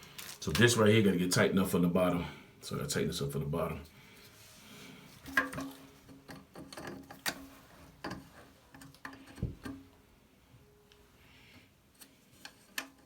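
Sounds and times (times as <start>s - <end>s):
faint steady hum: 0.0s - 12.8s.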